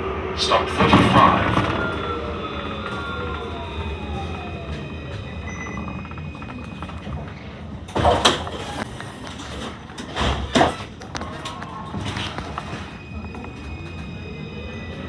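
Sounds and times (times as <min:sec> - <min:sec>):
tram rumble: 0:00.0 - 0:15.0.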